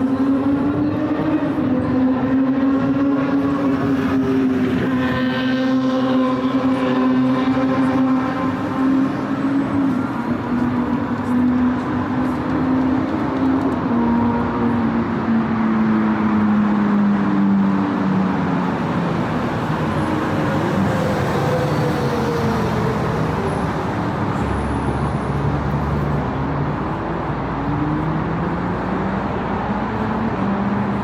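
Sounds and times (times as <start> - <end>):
cars passing with tyre noise: 0.0 - 31.0.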